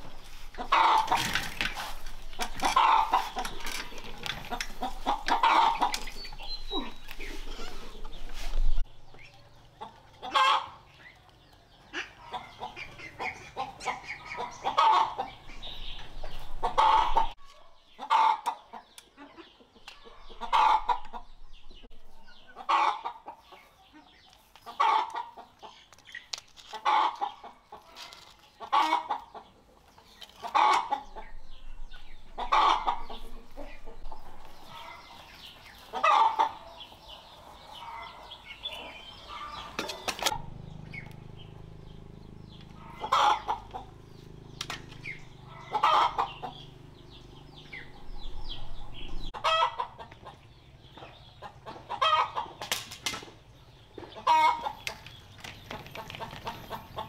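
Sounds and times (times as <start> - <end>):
chicken clucking: 0.0 - 57.0.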